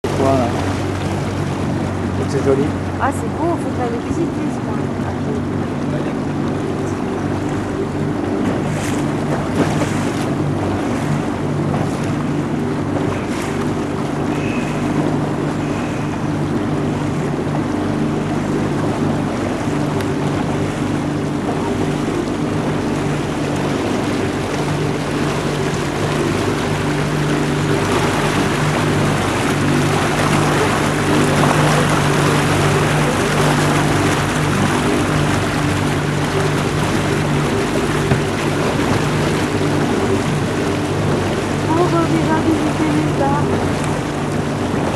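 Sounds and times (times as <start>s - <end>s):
boat engine droning: 0.0s - 44.9s
water and wind rushing: 0.0s - 44.9s.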